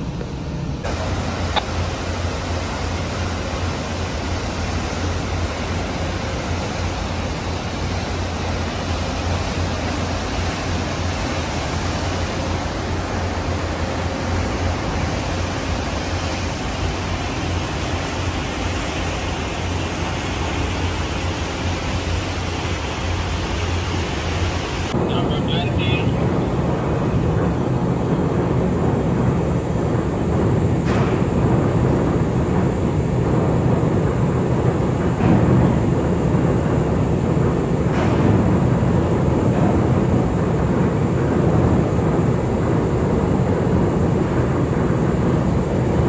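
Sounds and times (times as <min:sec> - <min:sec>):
churning water rushing: 0:00.7 - 0:46.0.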